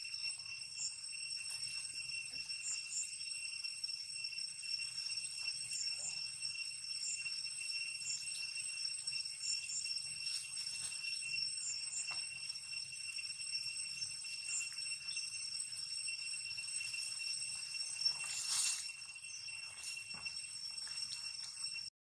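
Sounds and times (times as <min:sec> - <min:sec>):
high-pitched insect drone: 0:00.0 - 0:21.9.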